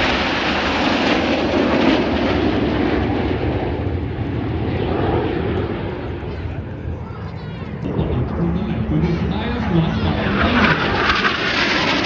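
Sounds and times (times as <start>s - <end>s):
jets roaring overhead: 0.0s - 12.0s.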